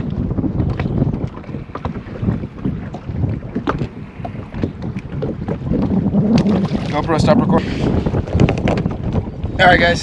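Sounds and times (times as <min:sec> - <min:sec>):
water lapping against hull: 0:00.0 - 0:10.0
wind buffeting microphone: 0:00.0 - 0:10.0.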